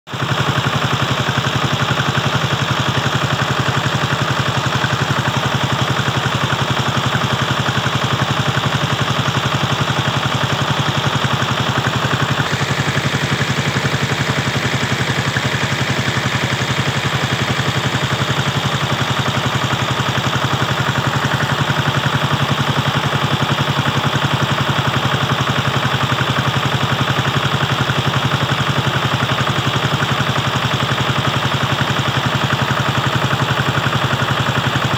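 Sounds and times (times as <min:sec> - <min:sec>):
small engine pulsing steadily: 0:00.1 - 0:34.9.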